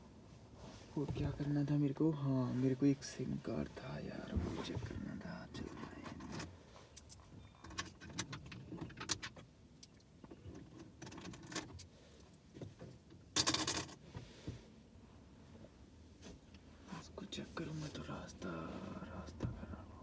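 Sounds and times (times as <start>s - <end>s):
rustle: 0.1s - 19.8s.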